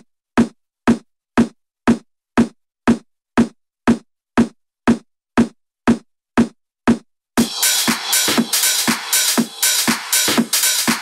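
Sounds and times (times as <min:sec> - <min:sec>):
electronic drum beat: 0:00.4 - 0:11.0.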